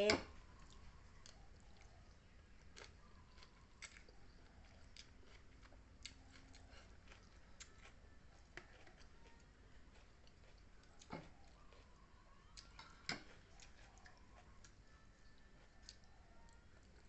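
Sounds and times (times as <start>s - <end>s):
low steady hum: 0.0s - 17.0s
person chewing: 0.6s - 17.0s
small clicks of eating: 0.6s - 17.0s.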